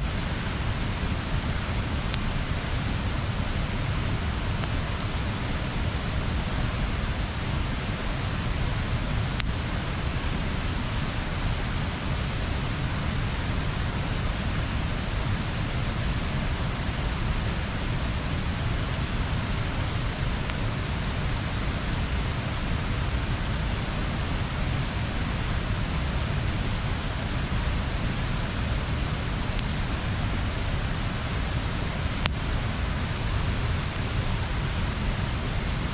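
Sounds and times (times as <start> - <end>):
bonfire burning and crackling: 0.0 - 35.9.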